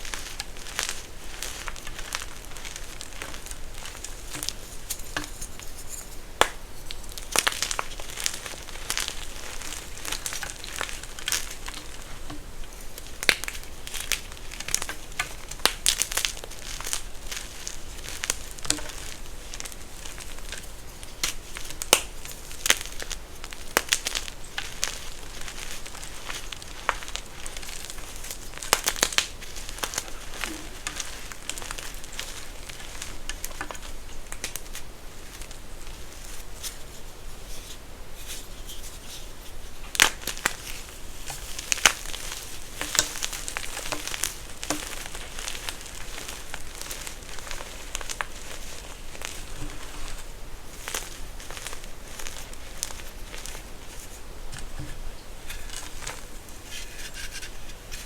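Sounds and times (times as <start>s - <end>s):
crunchy material being crushed: 0.0s - 37.6s, 38.2s - 58.0s.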